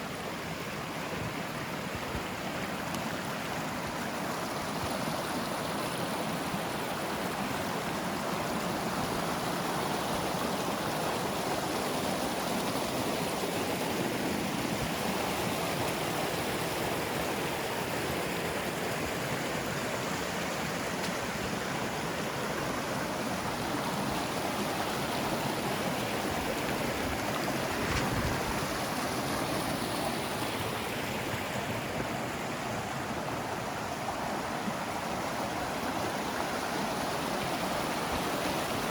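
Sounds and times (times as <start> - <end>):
mountain stream rushing: 0.0 - 38.9.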